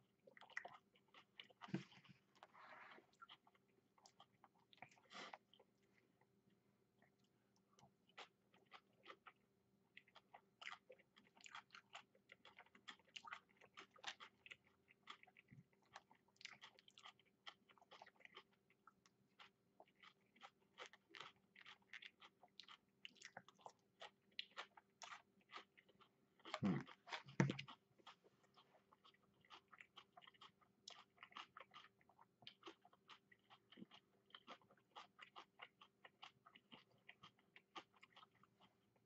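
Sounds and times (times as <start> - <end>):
chewing with clicks and crunches: 0.0 - 39.0.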